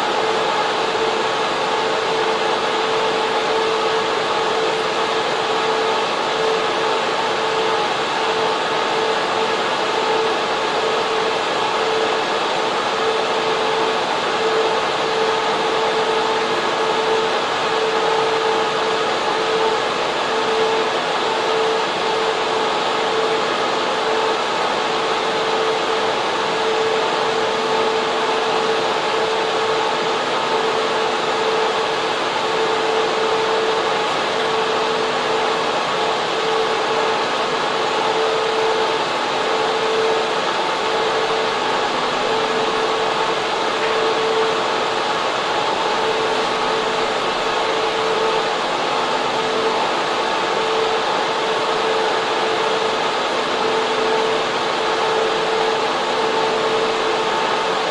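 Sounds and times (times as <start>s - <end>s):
cooling fans rushing air: 0.0s - 57.9s
steady hum tone: 0.0s - 57.9s.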